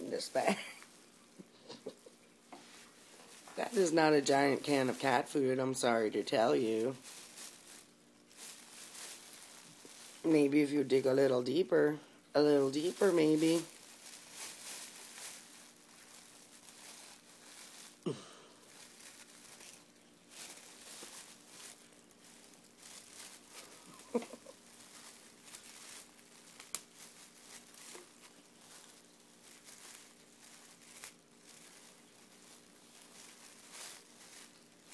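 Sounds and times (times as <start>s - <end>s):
bag rustling and crinkling: 2.6s - 34.9s.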